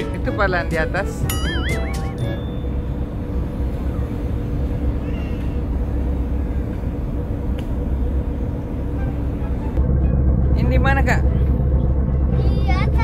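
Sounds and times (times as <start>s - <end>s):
ship engines droning: 0.0s - 13.0s.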